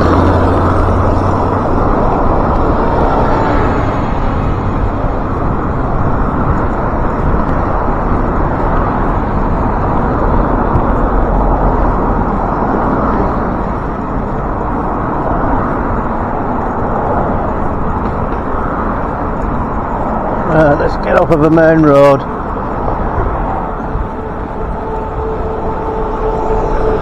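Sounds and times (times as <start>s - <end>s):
road traffic: 0.0s - 27.0s
wind rushing over microphone: 0.0s - 27.0s.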